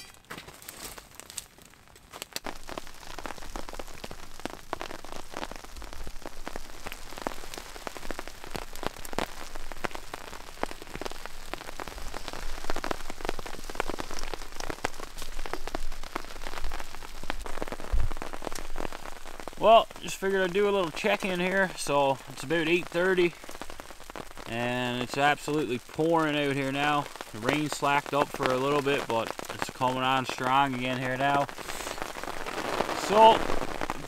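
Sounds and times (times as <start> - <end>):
heavy rain on tarp: 0.0 - 34.0.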